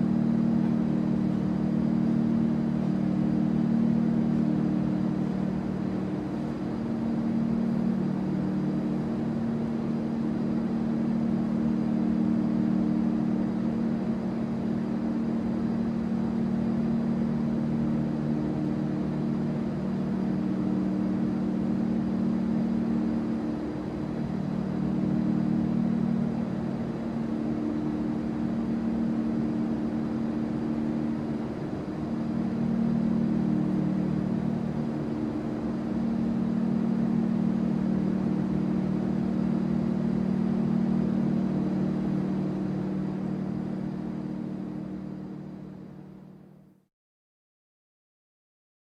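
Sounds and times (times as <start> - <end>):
idling bus engine hum: 0.0 - 46.4.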